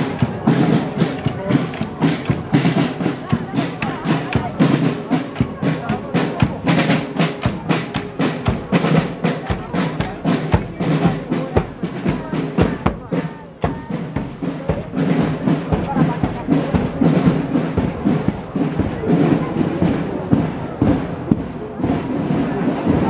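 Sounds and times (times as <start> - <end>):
marching snare drums: 0.0 - 23.0
music: 0.0 - 23.0
voices: 0.0 - 23.0.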